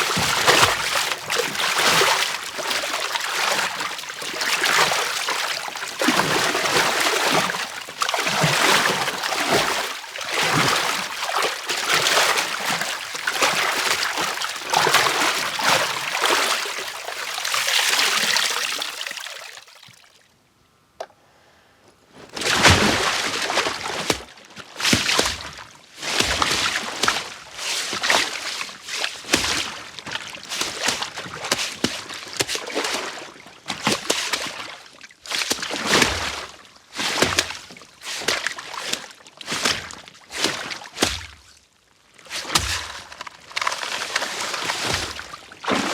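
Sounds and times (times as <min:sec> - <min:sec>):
water sloshing and splashing: 0:00.0 - 0:20.2, 0:22.3 - 0:41.6, 0:42.2 - 0:45.9.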